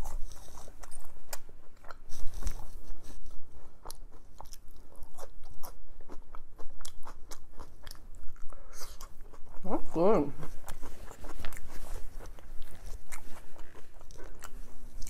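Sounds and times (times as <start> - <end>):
person chewing crunchy fries: 0.0 - 15.0.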